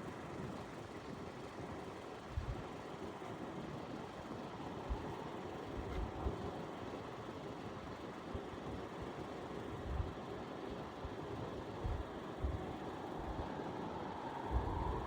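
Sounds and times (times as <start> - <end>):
vehicle engine rumble and hiss: 0.0 - 15.0.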